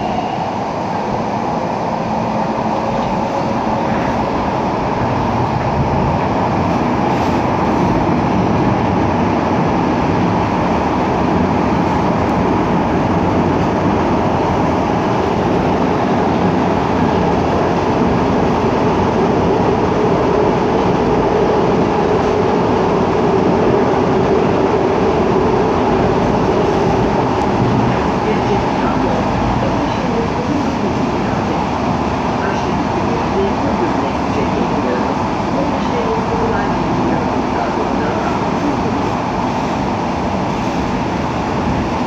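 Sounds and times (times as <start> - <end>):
train wheels rumbling: 0.0 - 42.0.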